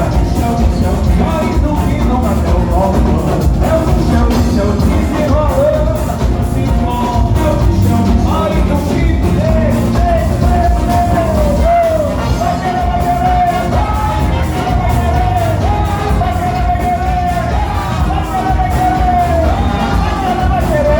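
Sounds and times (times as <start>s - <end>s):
carnival band music: 0.0s - 20.9s
dense drumming: 0.0s - 20.9s.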